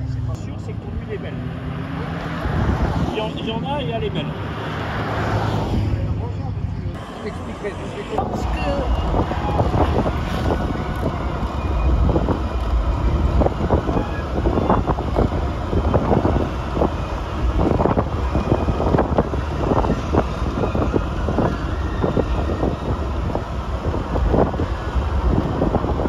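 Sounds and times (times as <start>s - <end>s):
car engine and road rumble: 0.0s - 26.0s
wind buffeting microphone: 1.4s - 6.2s, 6.9s - 26.0s.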